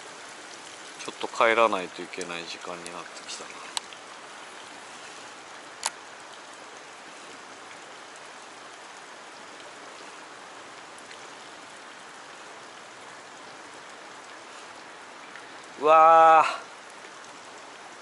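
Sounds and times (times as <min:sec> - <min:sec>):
water hissing at surface: 0:00.0 - 0:17.0.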